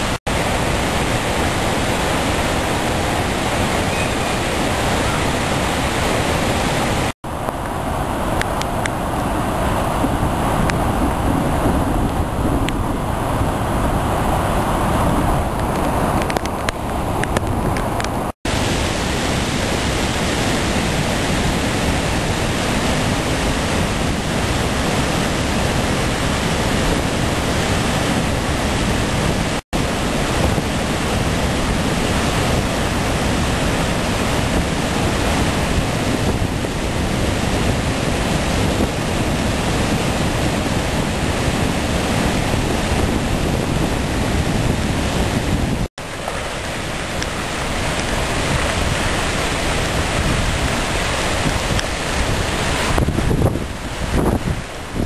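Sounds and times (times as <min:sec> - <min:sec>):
floodwater rushing in rapids: 0:00.0 - 0:55.0.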